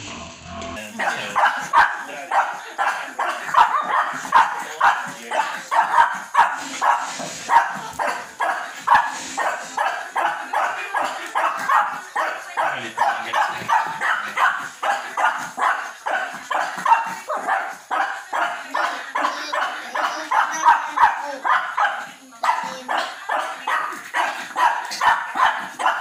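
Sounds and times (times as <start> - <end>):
small dog yapping: 1.0 - 26.0.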